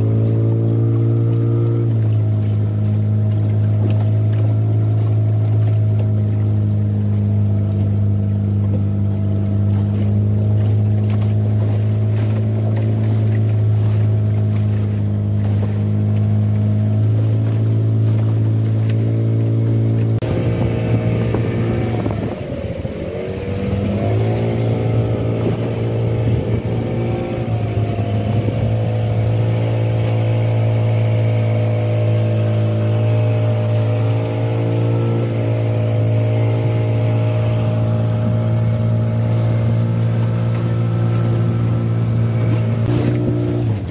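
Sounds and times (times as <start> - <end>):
boat engine running: 0.0 - 43.9
water rushing along hull: 0.0 - 43.9.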